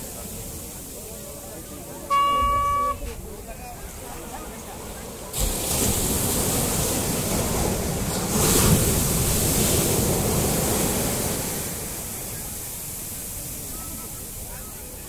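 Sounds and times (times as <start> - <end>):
sea waves crashing on beach: 0.0 - 15.0.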